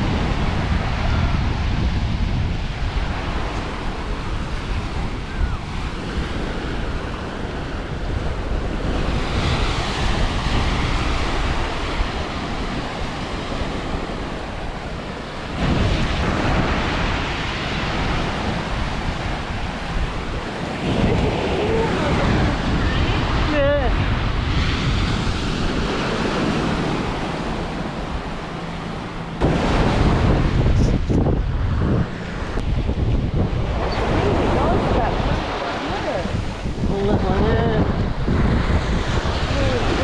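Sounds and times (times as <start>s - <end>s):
sea waves washing onto shore: 0.0s - 40.0s
wind buffeting microphone: 0.0s - 40.0s.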